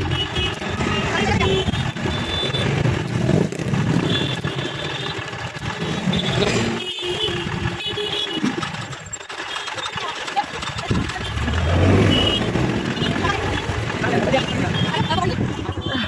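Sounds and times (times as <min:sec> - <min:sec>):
motorcycle engine rumbling: 0:00.0 - 0:16.0
road traffic: 0:00.0 - 0:16.0.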